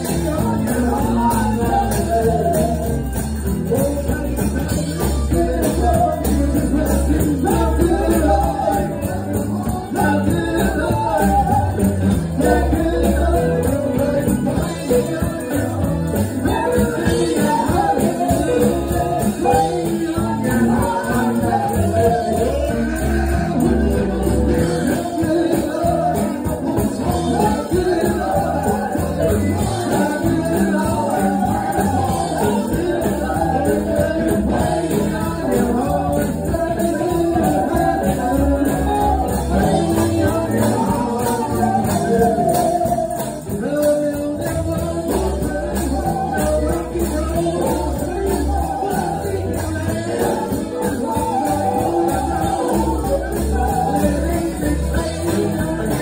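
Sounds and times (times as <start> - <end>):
guitar: 0.0 - 56.0
people singing worship music: 0.0 - 56.0
steady drum beat: 0.0 - 56.0.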